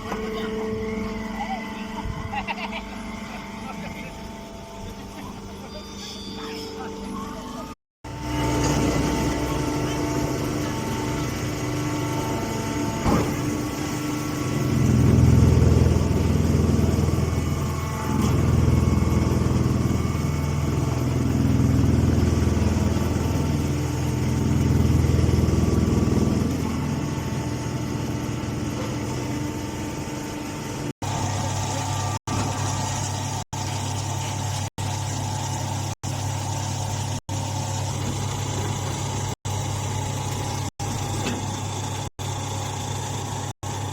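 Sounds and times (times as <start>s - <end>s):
baling machine humming: 0.0s - 43.9s.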